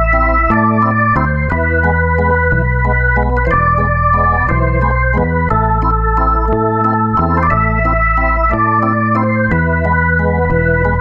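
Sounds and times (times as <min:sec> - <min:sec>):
bass line: 0:00.0 - 0:11.0
organ-like keyboard chords: 0:00.0 - 0:11.0.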